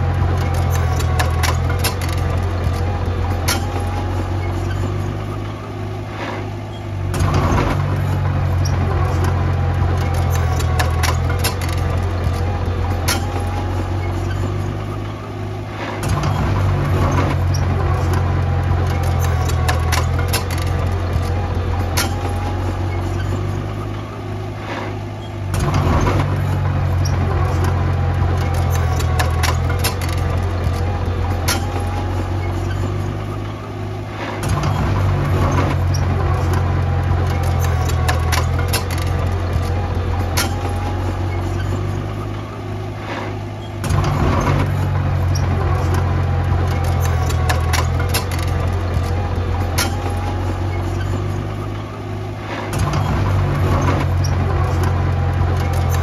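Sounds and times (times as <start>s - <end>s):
sharp clicks and clanks: 0.0s - 5.4s, 7.1s - 15.1s, 15.8s - 56.0s
heavy machinery diesel engine: 0.0s - 56.0s.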